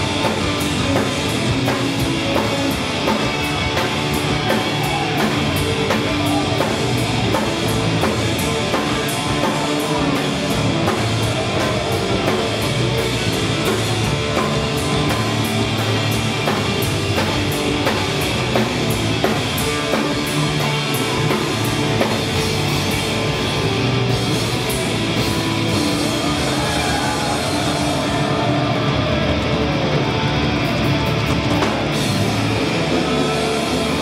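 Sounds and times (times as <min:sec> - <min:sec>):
punk rock band playing live: 0:00.0 - 0:34.0.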